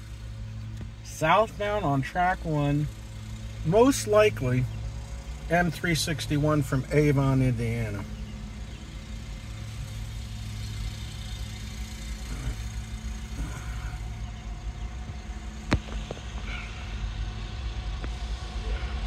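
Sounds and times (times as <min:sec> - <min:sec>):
diesel locomotives rumbling: 0:00.0 - 0:19.0.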